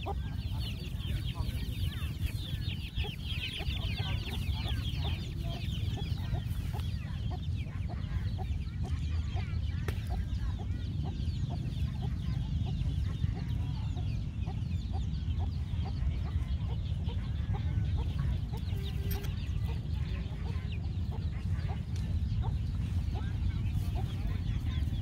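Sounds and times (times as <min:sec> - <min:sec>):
birds chirping: 0:00.0 - 0:25.0
chickens clucking: 0:00.0 - 0:25.0
steady low rumble: 0:00.0 - 0:25.0.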